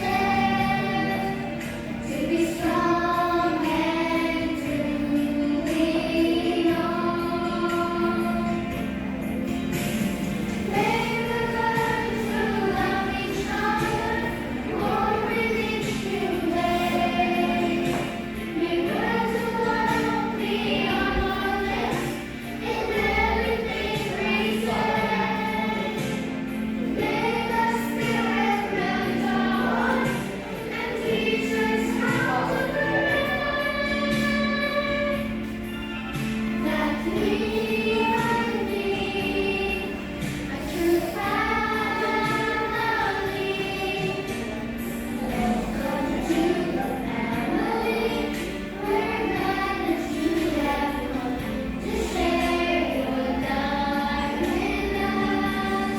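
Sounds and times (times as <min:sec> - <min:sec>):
choir singing slow song: 0:00.0 - 0:55.9
steady musical accompaniment: 0:00.0 - 0:55.9.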